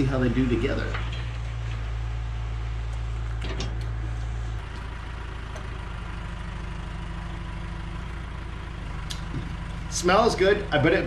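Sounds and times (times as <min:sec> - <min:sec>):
heavy machine engine idling: 0:00.0 - 0:11.0.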